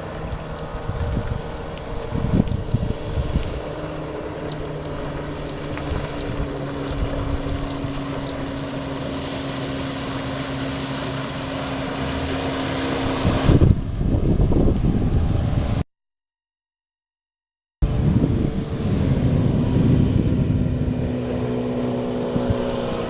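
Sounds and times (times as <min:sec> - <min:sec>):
outboard motor running: 0:00.0 - 0:15.8, 0:17.8 - 0:23.0
wind buffeting microphone: 0:00.0 - 0:15.8, 0:17.8 - 0:23.0.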